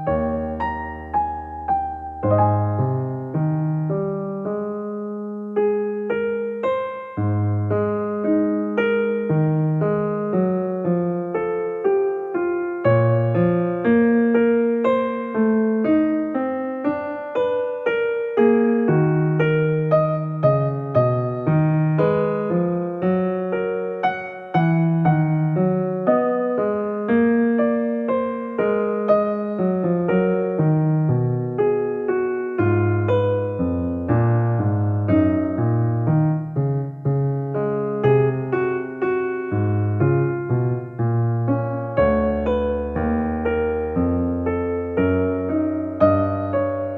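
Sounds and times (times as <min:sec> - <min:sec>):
piano melody over bass line: 0:00.0 - 0:46.9.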